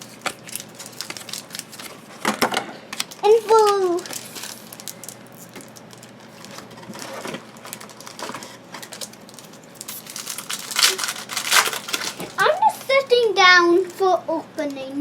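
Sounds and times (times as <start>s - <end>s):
card pack wrappers crinkling: 0.0s - 2.2s, 2.9s - 13.1s.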